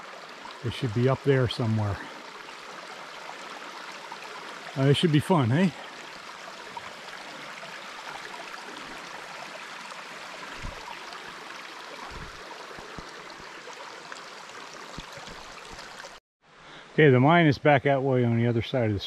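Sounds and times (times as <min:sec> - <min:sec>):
forest stream flowing: 0:00.0 - 0:19.0.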